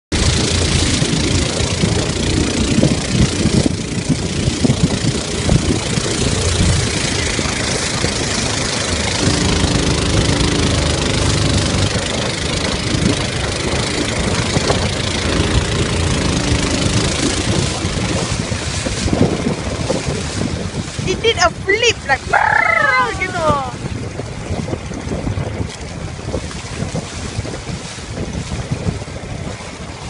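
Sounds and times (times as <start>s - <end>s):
rushing wind and water: 0.1s - 30.0s
small boat engine humming: 0.1s - 30.0s.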